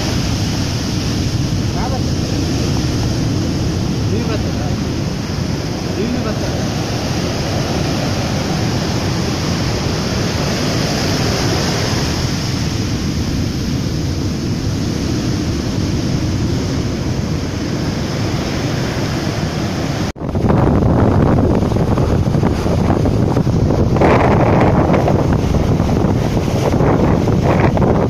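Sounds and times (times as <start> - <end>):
surf breaking on beach: 0.0 - 28.0
waves breaking against seawall: 0.0 - 28.0
wind buffeting microphone: 0.0 - 28.0.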